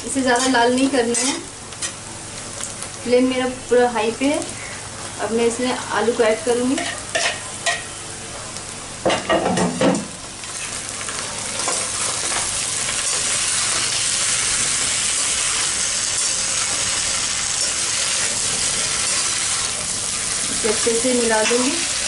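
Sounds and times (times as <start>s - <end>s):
vegetables sizzling in hot oil: 0.0s - 22.0s.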